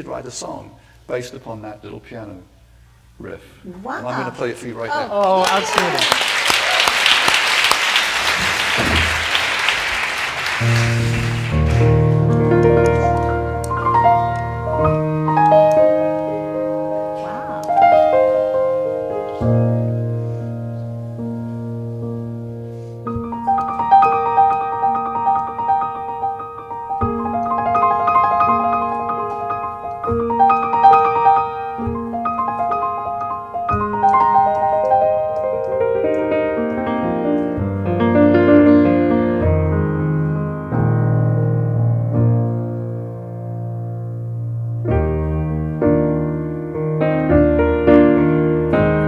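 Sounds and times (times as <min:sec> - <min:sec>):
grand piano melody: 0:05.8 - 0:49.0.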